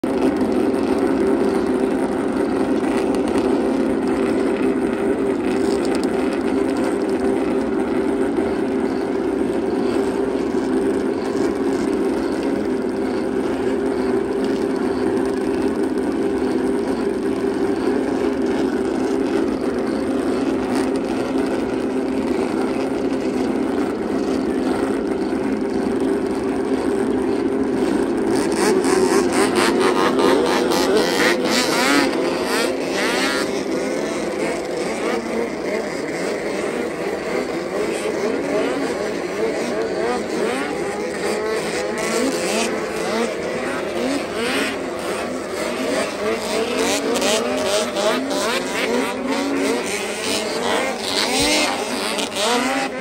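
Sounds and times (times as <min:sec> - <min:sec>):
snowmobile engines idling: 0:00.0 - 0:53.0.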